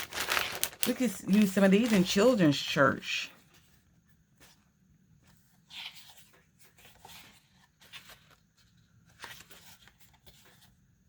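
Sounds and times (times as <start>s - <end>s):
paper rustling and scraping: 0.0s - 2.6s, 3.4s - 10.9s.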